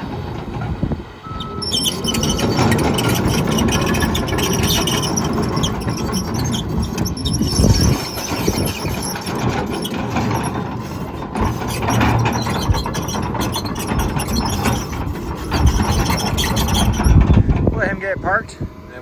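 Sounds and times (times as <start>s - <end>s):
excavator running: 0.0s - 18.4s
high-pitched squeals: 1.3s - 17.4s.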